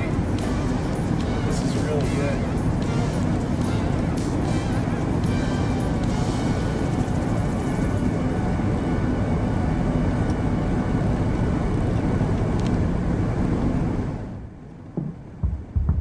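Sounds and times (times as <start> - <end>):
pickup truck engine and road rumble: 0.0 - 15.8.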